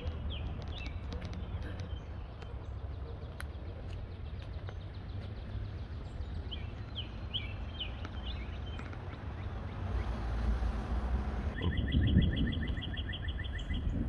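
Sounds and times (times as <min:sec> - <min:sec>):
bird chirping: 0:00.0 - 0:10.7, 0:11.5 - 0:14.0.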